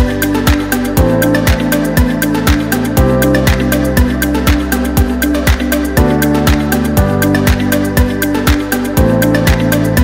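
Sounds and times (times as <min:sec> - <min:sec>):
electronic house music: 0:00.0 - 0:10.0.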